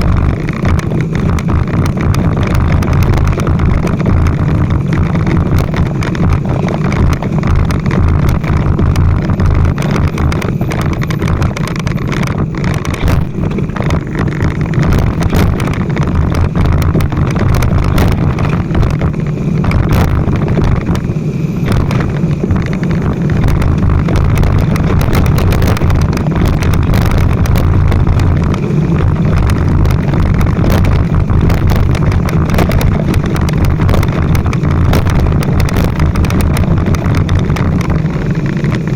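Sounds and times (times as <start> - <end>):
motorcycle running: 0.0 - 38.9
wind buffeting microphone: 0.0 - 38.9.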